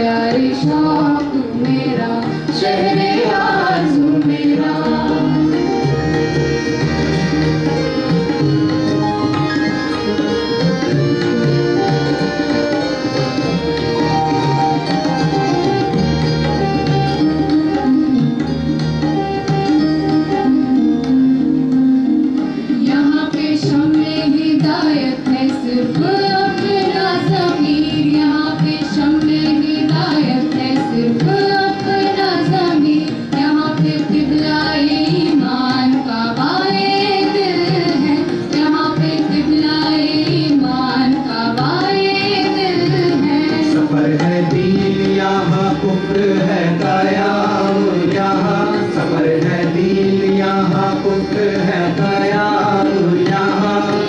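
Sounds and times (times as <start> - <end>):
other instruments: 0.0 - 54.0
tabla drumming: 0.0 - 54.0.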